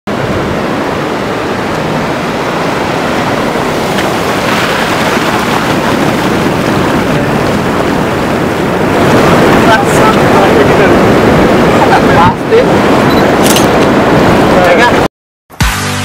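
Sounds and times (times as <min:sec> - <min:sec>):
ocean surf washing onto beach: 0:00.1 - 0:15.1
wind buffeting microphone: 0:00.1 - 0:15.1.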